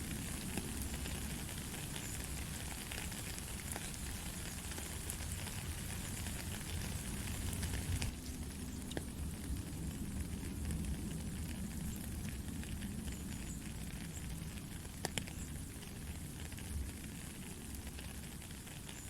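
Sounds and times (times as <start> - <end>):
rain patter: 0.0 - 19.0.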